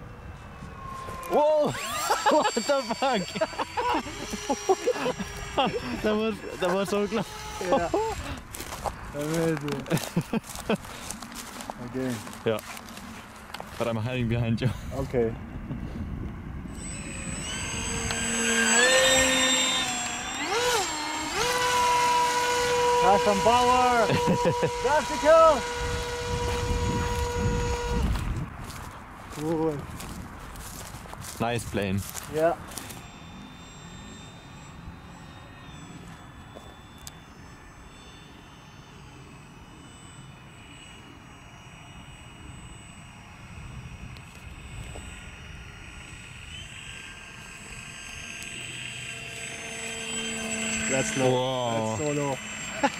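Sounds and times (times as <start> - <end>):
model glider motor whining: 0.0 - 52.9.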